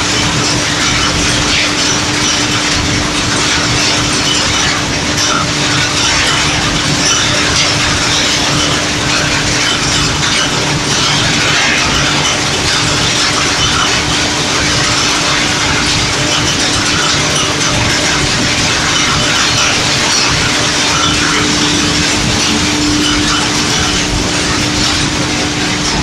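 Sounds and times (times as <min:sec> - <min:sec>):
constant hum: 0:00.0 - 0:26.0
machinery running: 0:00.0 - 0:26.0.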